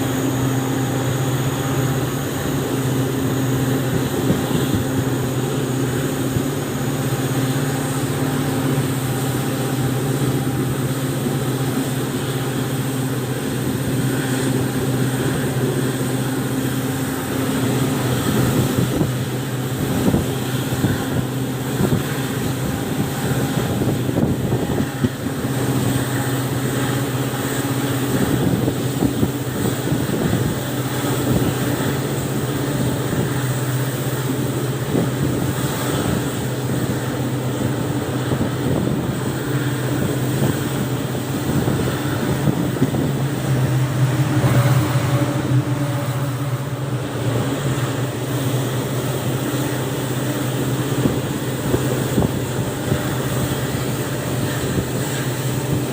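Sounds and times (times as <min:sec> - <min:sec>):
diesel locomotive engine droning: 0:00.0 - 0:55.9.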